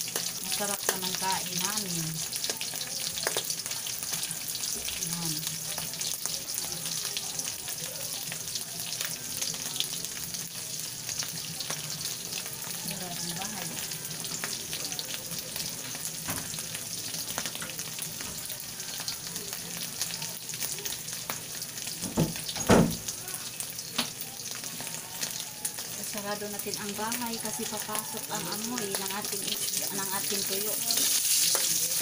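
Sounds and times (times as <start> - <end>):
fish frying in oil: 0.0 - 32.0.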